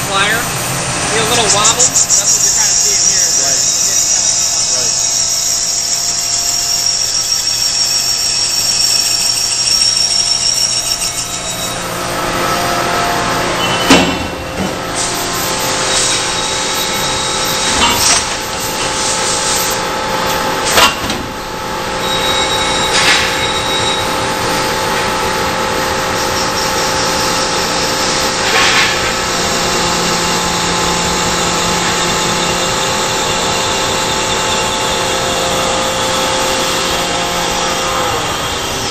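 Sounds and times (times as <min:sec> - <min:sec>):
lathe high whine: 0:00.0 - 0:38.9
rough machine noise: 0:00.0 - 0:38.9.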